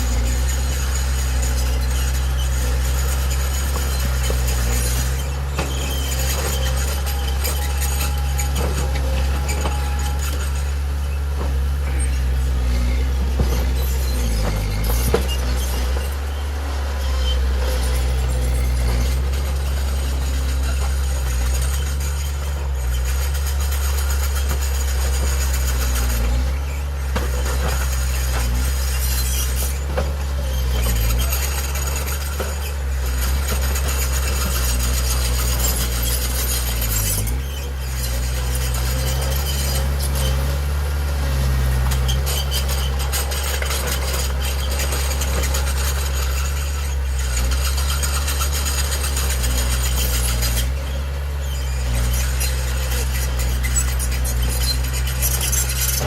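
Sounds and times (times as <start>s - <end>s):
diesel engine drone: 0.0s - 56.0s
high-pitched metallic noise: 0.0s - 56.0s.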